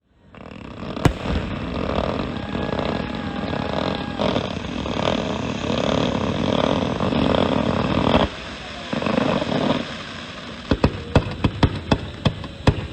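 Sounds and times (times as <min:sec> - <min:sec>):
fireworks booming and crackling: 0:00.2 - 0:12.9.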